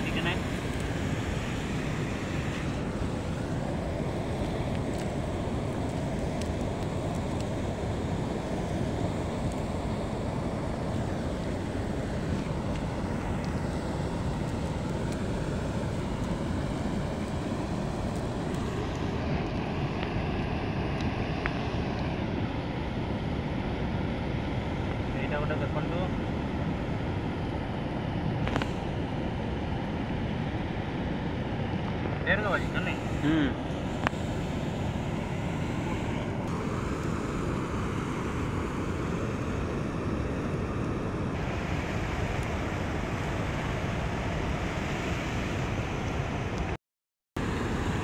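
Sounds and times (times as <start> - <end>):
river rushing: 0.0 - 46.8, 47.4 - 48.0.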